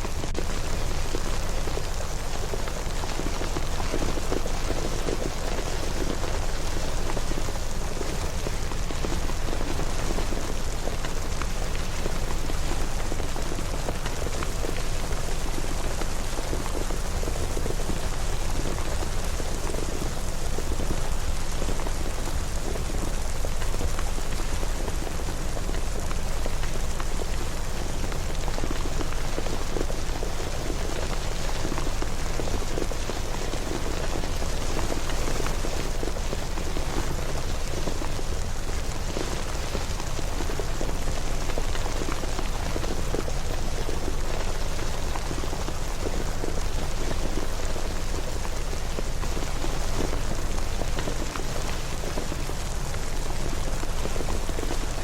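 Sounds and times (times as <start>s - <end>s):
rain pattering on surfaces: 0.0s - 55.0s.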